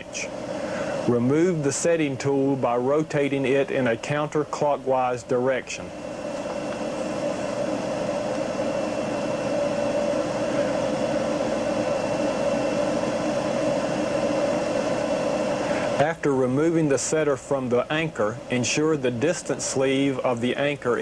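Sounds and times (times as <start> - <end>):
faint high whine: 0.0 - 21.0
mechanical hum: 0.0 - 21.0.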